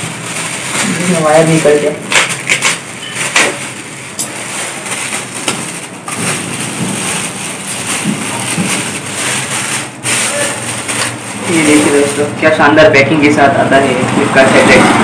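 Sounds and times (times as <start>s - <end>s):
plastic wrapping crinkling: 0.0s - 14.8s.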